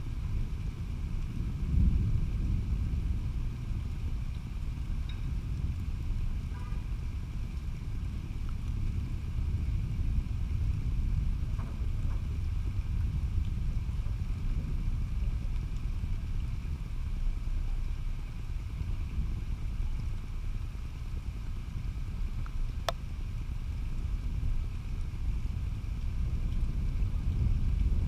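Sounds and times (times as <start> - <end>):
low thunder rumble: 0.0 - 28.0.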